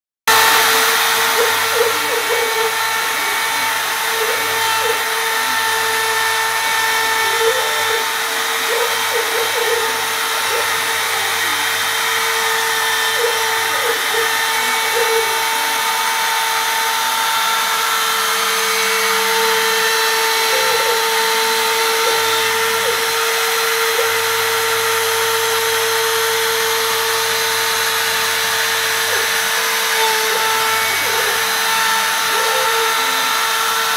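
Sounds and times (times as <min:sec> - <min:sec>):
milling spindle high whine: 0:00.3 - 0:33.9.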